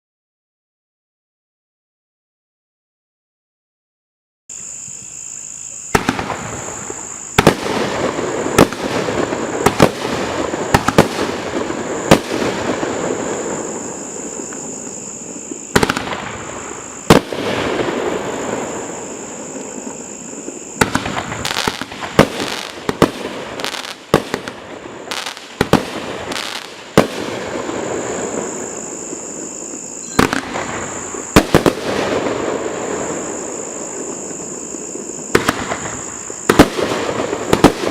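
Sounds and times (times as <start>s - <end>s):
fireworks crackling: 5.9s - 37.9s
fireworks shots: 5.9s - 37.9s.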